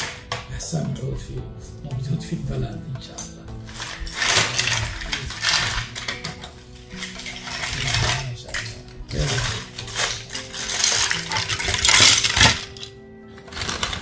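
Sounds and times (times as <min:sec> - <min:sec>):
wood chunks clattering: 0:00.0 - 0:00.6, 0:03.2 - 0:14.0.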